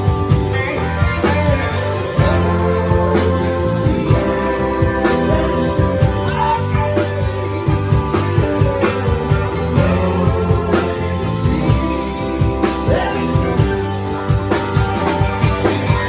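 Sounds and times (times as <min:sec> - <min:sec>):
bass guitar: 0:00.0 - 0:16.0
electric guitar: 0:00.0 - 0:16.0
person singing: 0:01.2 - 0:14.2.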